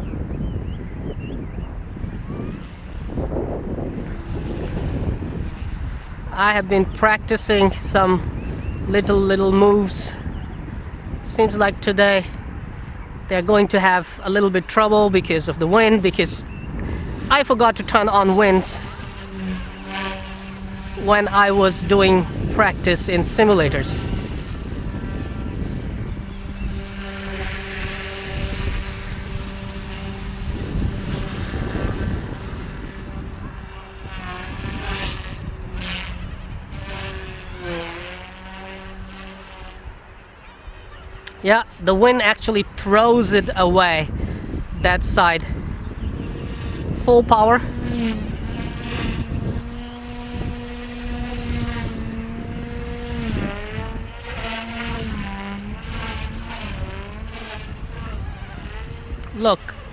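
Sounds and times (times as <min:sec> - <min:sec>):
rc helicopter rotor whine: 0:00.0 - 0:59.9
wind buffeting microphone: 0:00.0 - 0:59.9.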